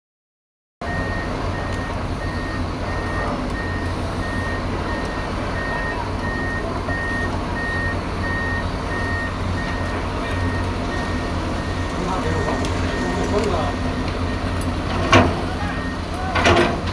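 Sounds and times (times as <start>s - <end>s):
diesel engine running: 0.8s - 16.9s
excavator travel alarm beeping: 0.8s - 16.9s.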